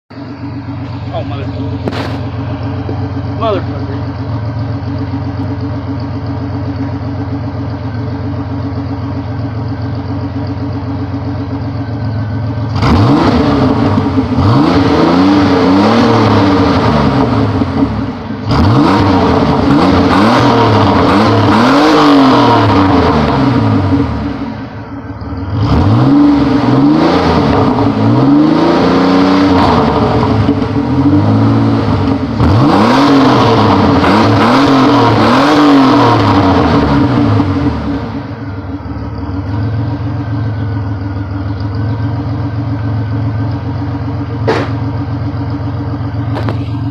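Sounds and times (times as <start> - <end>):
car engine idling and revving: 0.1 - 46.9.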